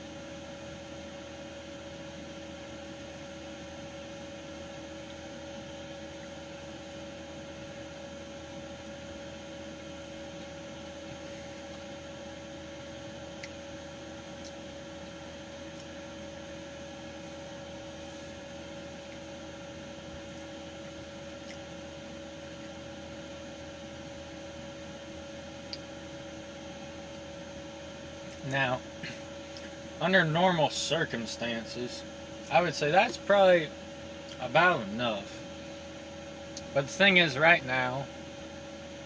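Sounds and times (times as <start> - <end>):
steady hum and hiss: 0.0 - 39.0.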